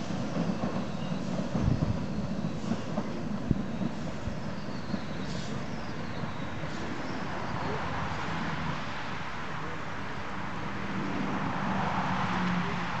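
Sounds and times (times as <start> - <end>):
steam train rumbling: 0.0 - 13.0.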